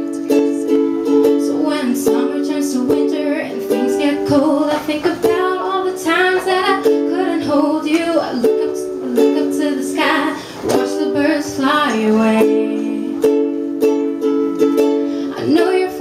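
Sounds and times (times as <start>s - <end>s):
woman singing: 0.0s - 13.7s, 15.2s - 16.0s
ukulele strumming: 0.0s - 16.0s.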